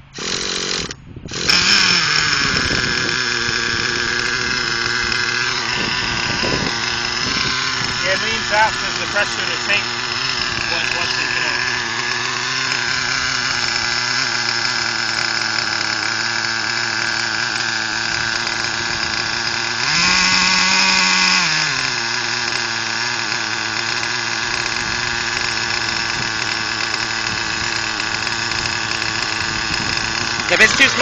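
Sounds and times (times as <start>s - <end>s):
nitro engine idling and revving: 0.0s - 31.0s.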